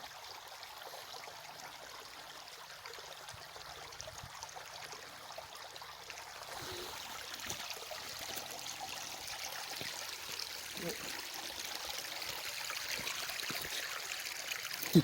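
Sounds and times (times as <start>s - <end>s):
creek water trickling: 0.0s - 15.0s.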